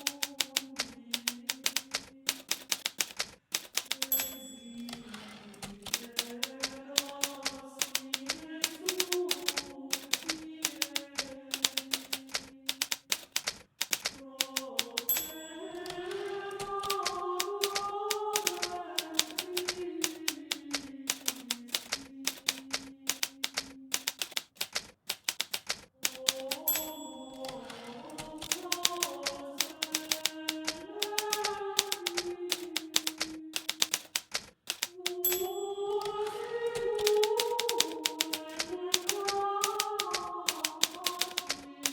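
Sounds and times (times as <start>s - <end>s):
typewriter typing: 0.0s - 41.9s
typewriter bell ring: 1.2s - 10.9s, 11.5s - 20.5s, 21.1s - 41.9s.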